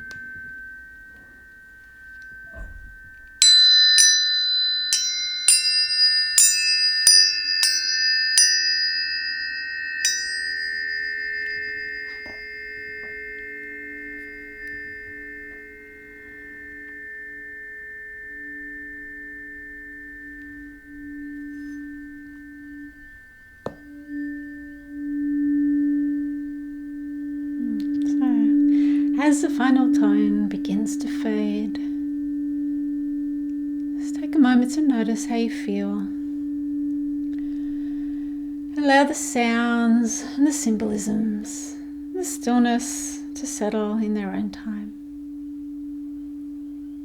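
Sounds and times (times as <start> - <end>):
low tuning fork tone: 0.0 - 47.0
tuning forks ringing: 0.0 - 47.0.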